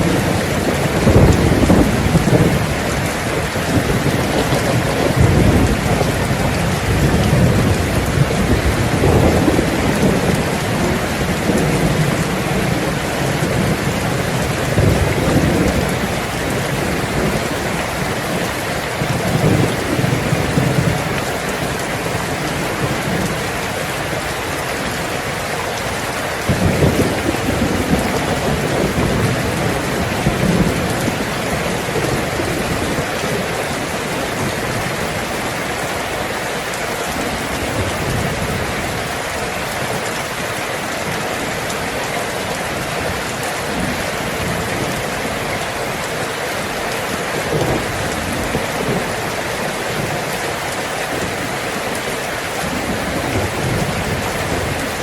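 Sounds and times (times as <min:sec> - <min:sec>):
heavy rain on a tin roof: 0:00.0 - 0:55.0
low rolling thunder: 0:00.0 - 0:55.0.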